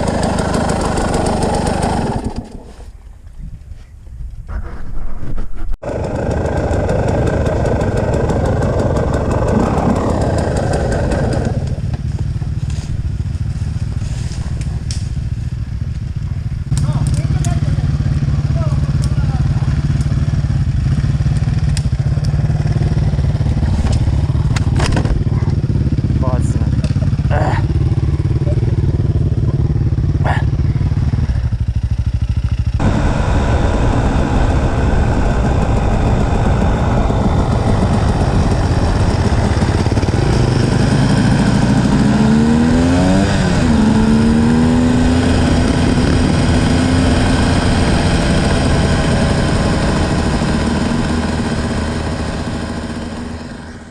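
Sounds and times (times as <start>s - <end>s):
motorcycle engine running: 0.0s - 2.8s, 5.8s - 53.9s.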